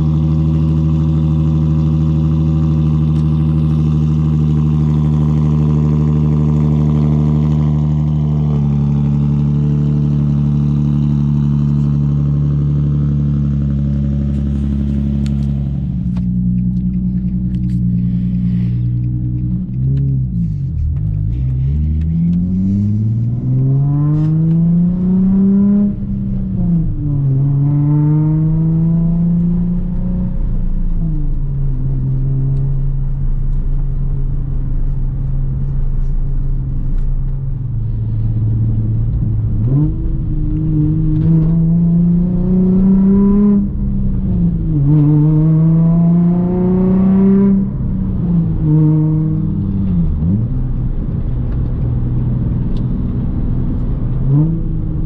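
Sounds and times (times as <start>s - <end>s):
car engine revving through loud exhaust: 0.0s - 55.0s.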